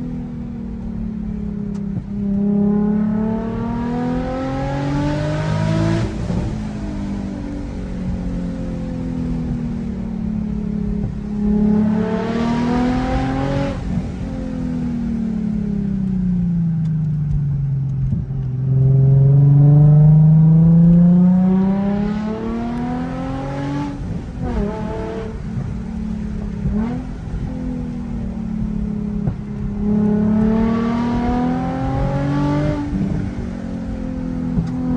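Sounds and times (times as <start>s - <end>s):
car engine revving: 0.7s - 34.9s.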